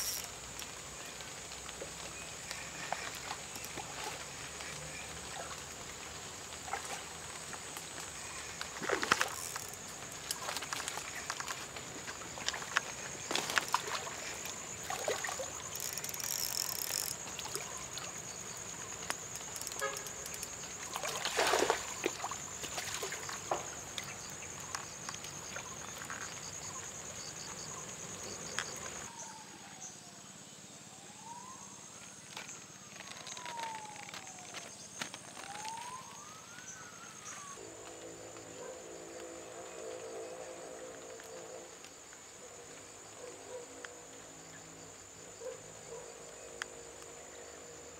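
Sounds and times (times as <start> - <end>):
high insect-like hum: 0.0 - 29.2, 30.0 - 47.9.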